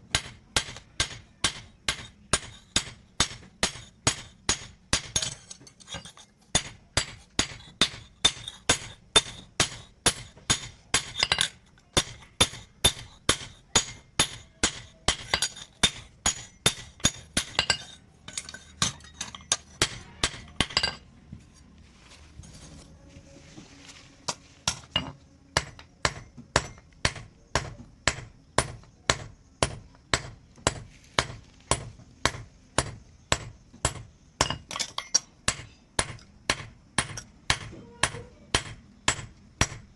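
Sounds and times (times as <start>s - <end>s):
hammer striking steel on anvil: 0.1s - 21.0s, 24.3s - 39.8s.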